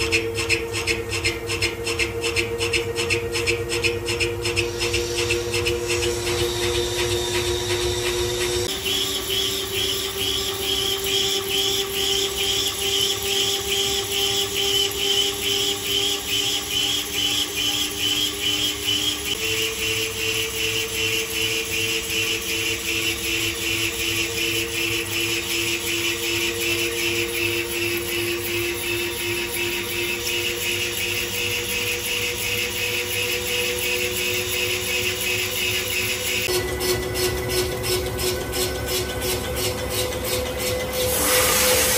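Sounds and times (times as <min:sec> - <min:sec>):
held machine tones: 0:00.0 - 0:41.9
lathe machine hum: 0:00.0 - 0:41.9
pulsing metal scraping: 0:00.0 - 0:41.9.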